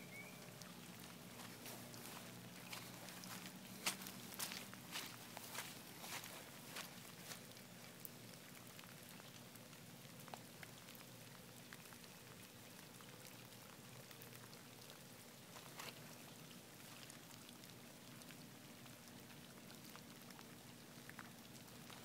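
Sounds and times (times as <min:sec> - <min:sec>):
raindrop ticks: 0:00.6 - 0:22.0.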